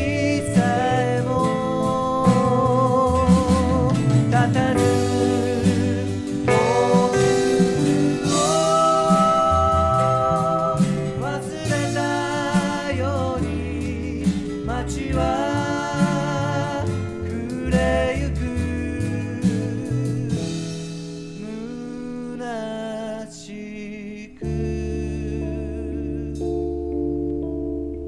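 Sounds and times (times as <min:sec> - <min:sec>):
instrumental pop ballad: 0:00.0 - 0:28.0.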